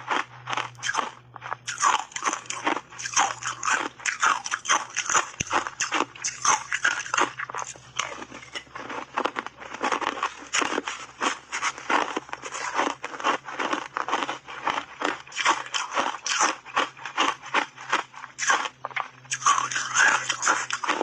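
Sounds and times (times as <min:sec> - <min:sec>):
ice crunching in mouth: 0:00.0 - 0:21.0.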